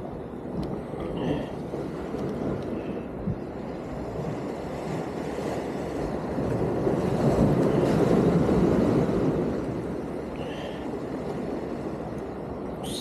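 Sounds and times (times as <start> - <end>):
sea surf washing against concrete: 0.0 - 13.0
wind rumbling on microphone: 0.0 - 13.0.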